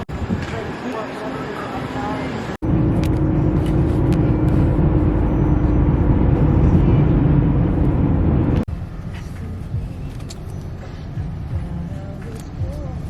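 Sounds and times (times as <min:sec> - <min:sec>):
motor vehicle low rumble: 0:02.0 - 0:13.0.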